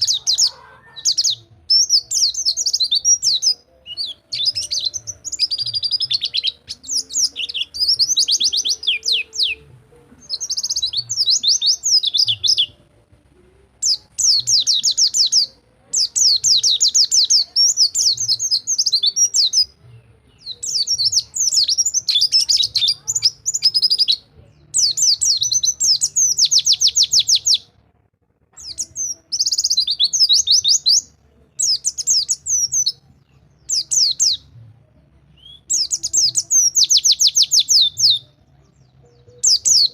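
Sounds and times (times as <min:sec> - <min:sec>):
bird singing fast trills: 0:00.0 - 0:12.8, 0:13.8 - 0:27.6, 0:28.6 - 0:34.6, 0:35.4 - 0:39.9.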